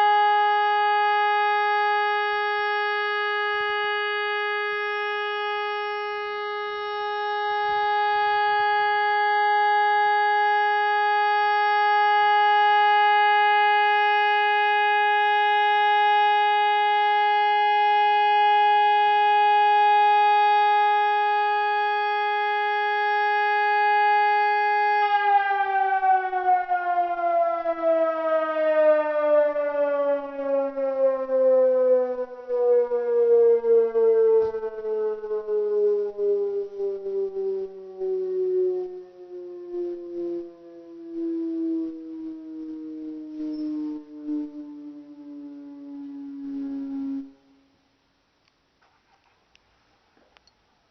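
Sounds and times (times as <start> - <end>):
electronic siren tone: 0.0 - 47.8.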